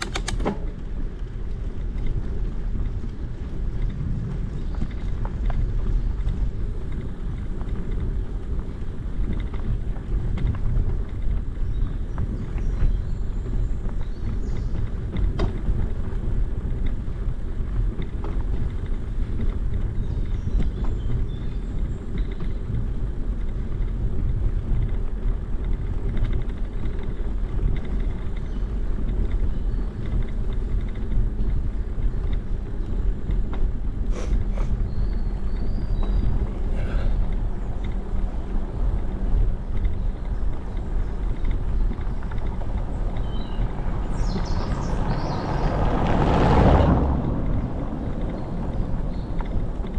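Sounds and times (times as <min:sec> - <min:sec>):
bicycle tyres rolling: 0:00.0 - 0:49.9
wind on microphone: 0:00.8 - 0:49.9.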